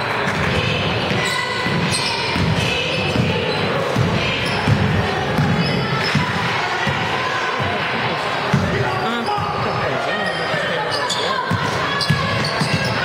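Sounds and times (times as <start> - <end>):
spectators chatter: 0.0 - 13.0.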